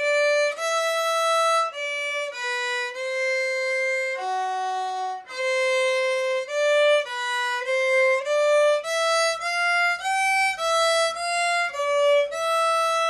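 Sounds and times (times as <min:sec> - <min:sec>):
solo violin melody: 0:00.0 - 0:13.0.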